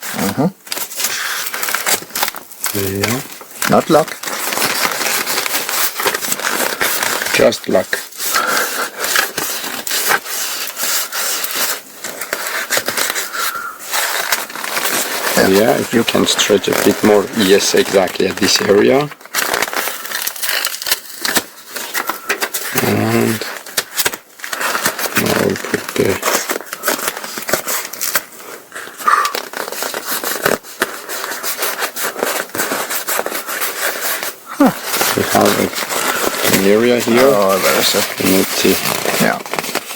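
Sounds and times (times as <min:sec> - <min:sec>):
nylon fabric crinkling: 0:00.0 - 0:39.9.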